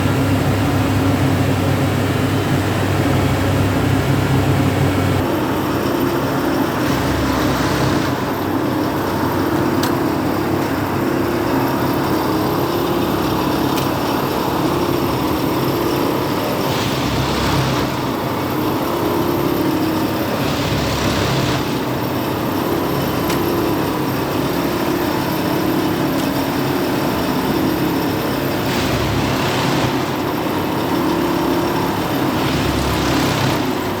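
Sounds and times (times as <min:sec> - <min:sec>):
track tamping machine working: 0:00.0 - 0:34.0.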